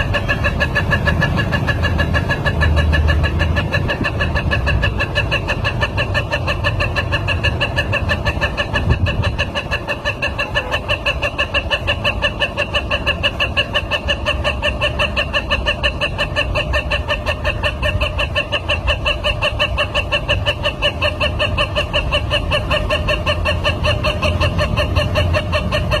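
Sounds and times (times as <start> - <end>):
bird calling rapid notes: 0.0 - 26.0.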